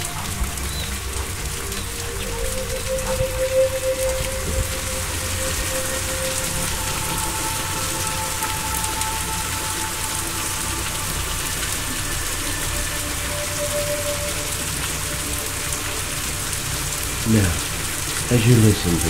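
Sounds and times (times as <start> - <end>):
soft long held tones: 0.0 - 18.5
rain-like hiss: 0.0 - 19.0.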